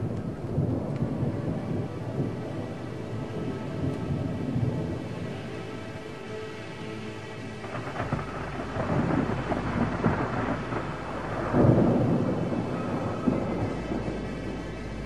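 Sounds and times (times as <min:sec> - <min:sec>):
thunder rumbling and crackling: 0:00.0 - 0:15.0.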